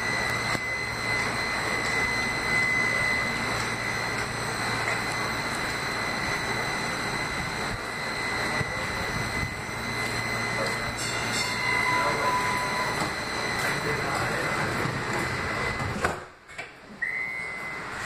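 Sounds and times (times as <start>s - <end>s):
high-pitched whine: 0.0s - 18.0s
train equipment hum and hiss: 0.0s - 18.0s.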